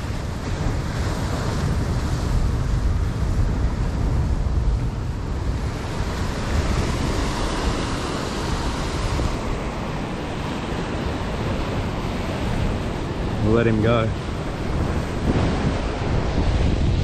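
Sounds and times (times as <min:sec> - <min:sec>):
surf breaking against rocks: 0:00.0 - 0:17.0
wind buffeting microphone: 0:00.0 - 0:17.0.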